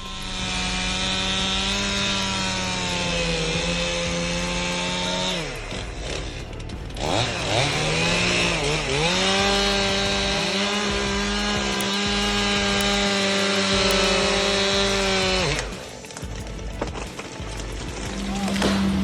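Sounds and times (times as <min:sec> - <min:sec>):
chainsaw engine revving: 0:00.0 - 0:19.0.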